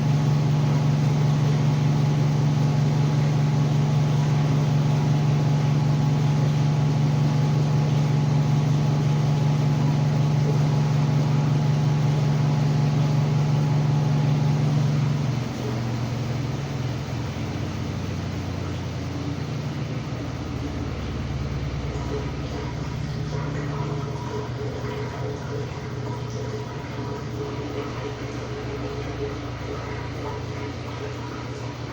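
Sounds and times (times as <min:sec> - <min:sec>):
washing machine motor hum: 0:00.0 - 0:31.9.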